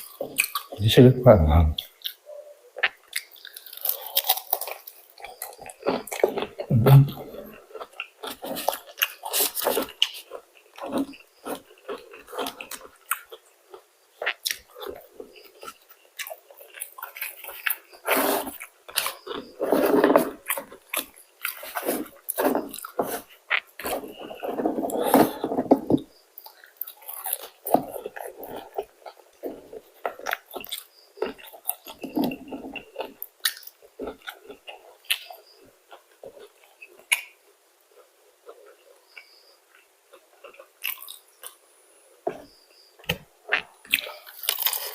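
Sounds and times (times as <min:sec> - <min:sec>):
person chewing crispy food: 0:00.0 - 0:00.8, 0:01.8 - 0:44.9.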